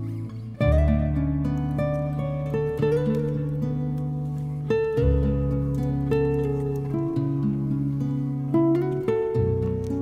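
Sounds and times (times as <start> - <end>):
plucked string notes: 0.0 - 10.0.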